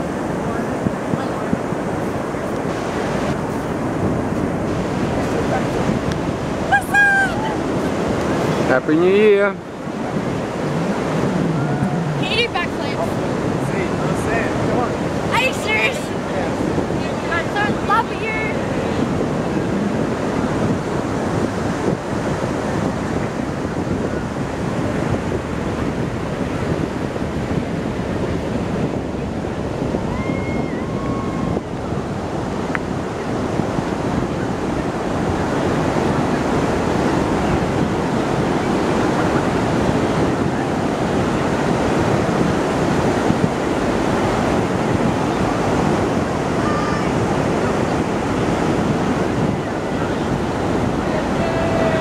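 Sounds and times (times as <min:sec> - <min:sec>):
wind on microphone: 0:00.0 - 0:52.0.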